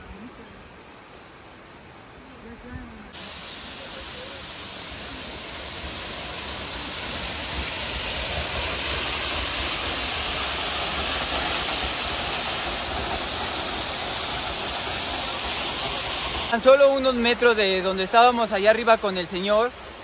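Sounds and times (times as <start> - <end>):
waterfall roaring: 3.1 - 20.0.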